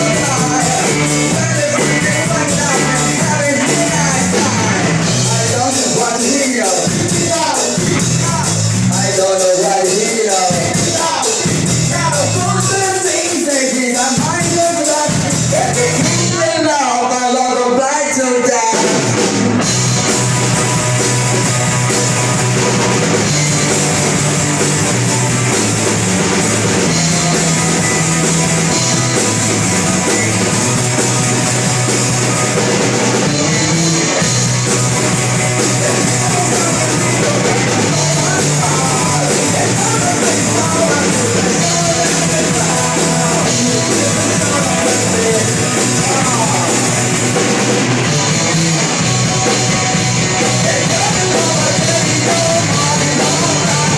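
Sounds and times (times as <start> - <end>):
loud rock band playing: 0.0 - 53.9.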